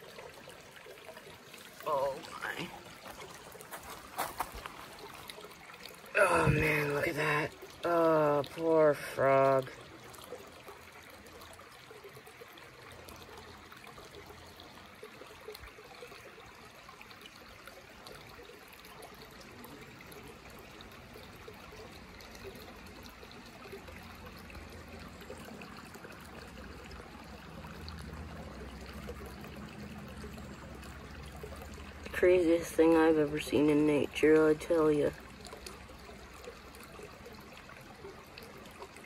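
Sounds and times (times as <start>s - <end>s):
river water trickling over rocks: 0.0s - 39.0s.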